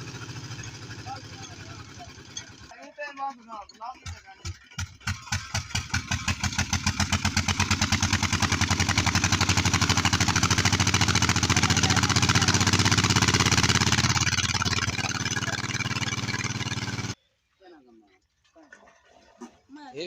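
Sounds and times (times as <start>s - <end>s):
diesel engine running: 0.0s - 2.7s, 3.7s - 17.2s.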